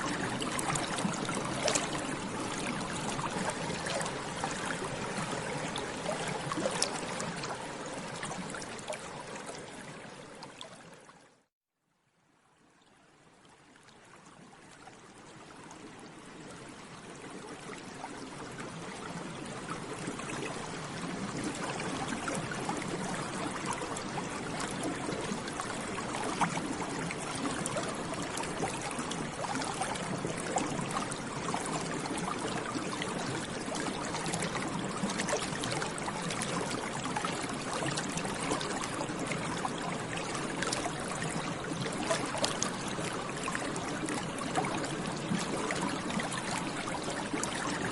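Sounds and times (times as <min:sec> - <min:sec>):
water bubbling: 0:00.0 - 0:10.1, 0:19.4 - 0:47.9.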